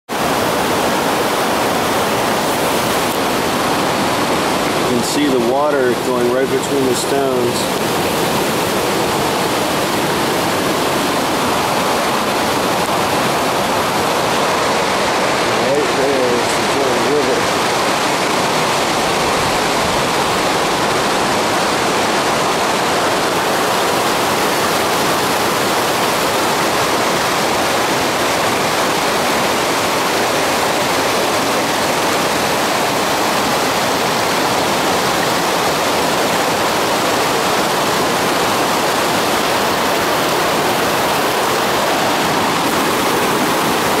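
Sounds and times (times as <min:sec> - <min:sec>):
water rushing over rocks: 0:00.1 - 0:44.0.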